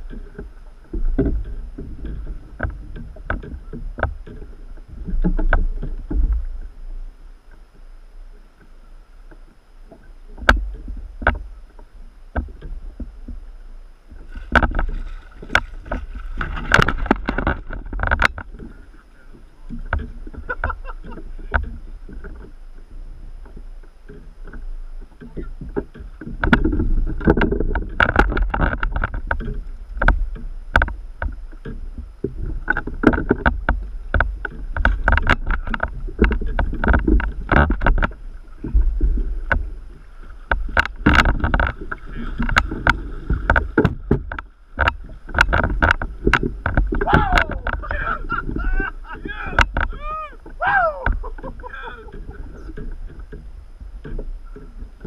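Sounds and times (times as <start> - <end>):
gear clattering on boat: 0.0 - 55.0
water sloshing against kayak hull: 0.0 - 55.0
wind rumble on microphone: 0.0 - 55.0.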